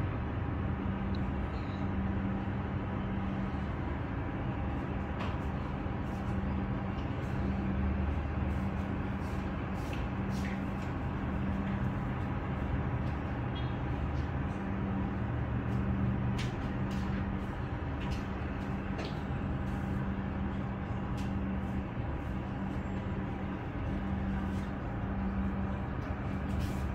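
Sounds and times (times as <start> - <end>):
city traffic rumble through window: 0.0 - 26.9
constant low hum: 0.0 - 26.9.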